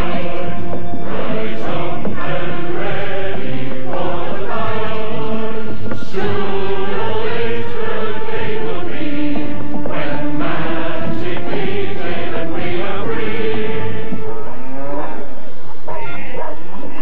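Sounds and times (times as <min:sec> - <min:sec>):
choir chanting long notes: 0:00.0 - 0:15.7.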